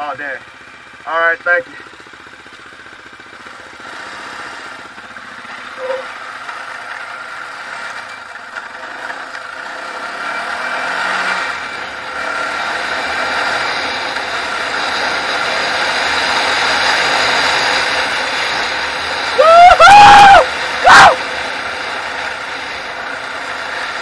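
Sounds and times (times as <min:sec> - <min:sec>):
atv engine running hard: 0:00.0 - 0:24.0.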